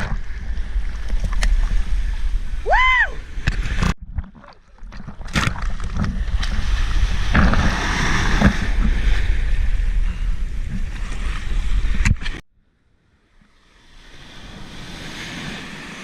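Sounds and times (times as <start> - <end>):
surf rushing and splashing: 0.0 - 12.4, 13.5 - 16.0.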